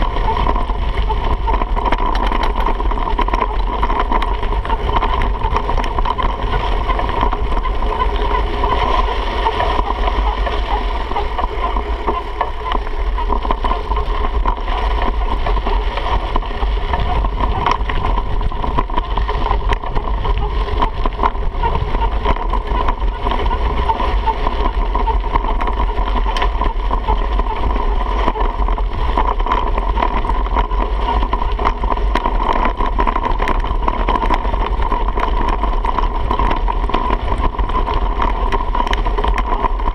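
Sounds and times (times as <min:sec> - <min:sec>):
bike clicks and rattles: 0:00.0 - 0:39.9
tyres rumbling on dirt: 0:00.0 - 0:39.9
wind buffeting camera: 0:00.0 - 0:39.9.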